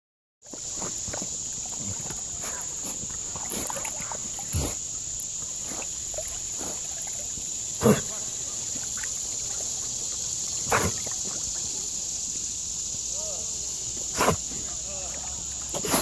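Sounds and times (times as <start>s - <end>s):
water lapping and splashing: 0.4s - 16.0s.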